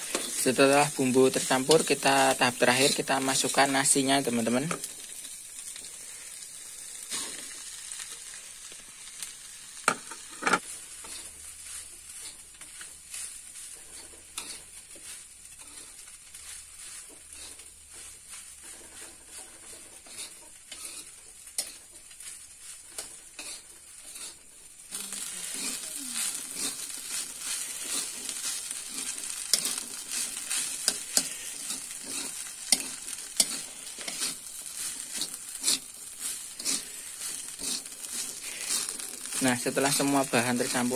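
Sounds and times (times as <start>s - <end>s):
spatula scraping a pan: 0.0s - 8.4s, 9.8s - 40.9s
rice sizzling in a wok: 0.0s - 40.9s.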